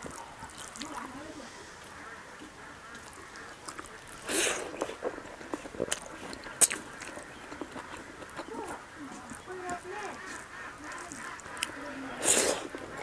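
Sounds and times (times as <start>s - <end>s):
chewing with wet smacks: 0.0s - 13.0s
mouth clicks: 0.0s - 13.0s.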